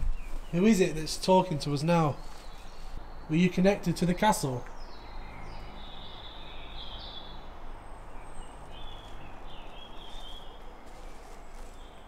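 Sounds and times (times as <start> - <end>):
birds chirping faintly: 0.0 - 12.0
steady background hiss: 0.0 - 12.0.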